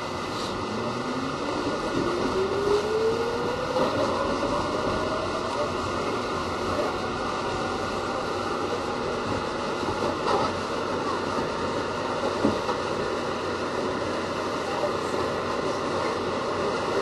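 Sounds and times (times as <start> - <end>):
subway car wheels rumbling: 0.0 - 17.0.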